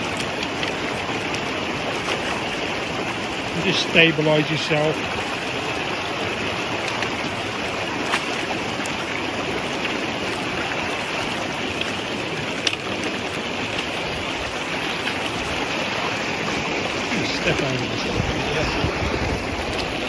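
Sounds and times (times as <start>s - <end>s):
rushing stream water: 0.0s - 20.0s.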